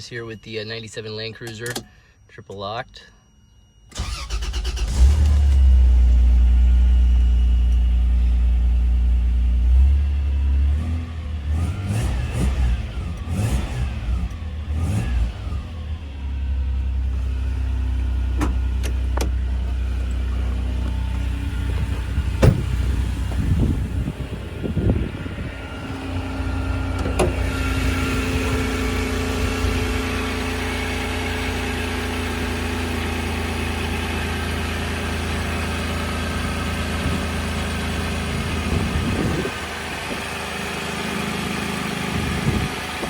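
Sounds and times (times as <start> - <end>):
engine cranking and idling: 3.9 - 8.9, 11.0 - 43.0.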